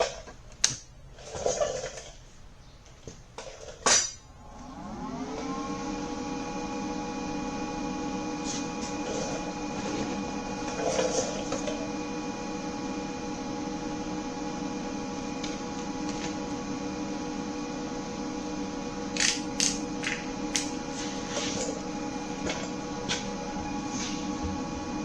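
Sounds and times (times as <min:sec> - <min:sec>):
electrical hum of shop equipment: 0:00.0 - 0:25.0.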